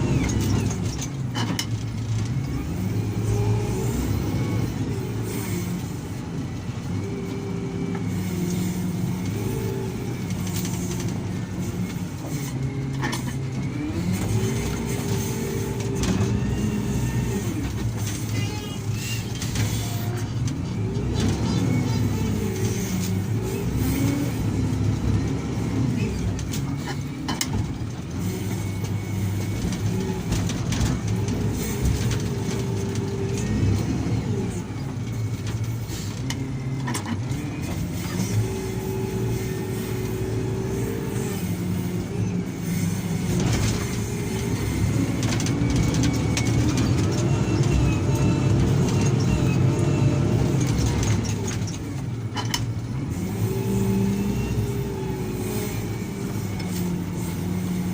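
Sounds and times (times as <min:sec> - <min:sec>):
heavy diesel machine engine: 0:00.0 - 0:57.9.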